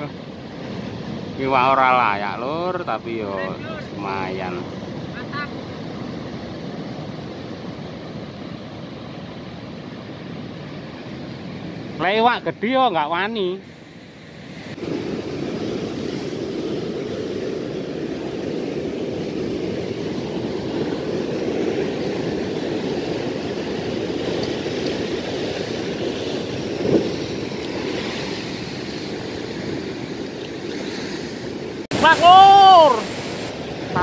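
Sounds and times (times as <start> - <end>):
ocean surf washing against rocks: 0.0 - 34.0.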